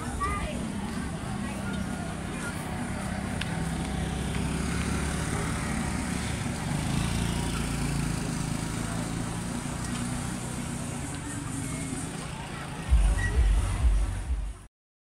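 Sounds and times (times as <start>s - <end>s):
scooter engines running: 0.0s - 14.6s
street noise: 0.0s - 14.7s.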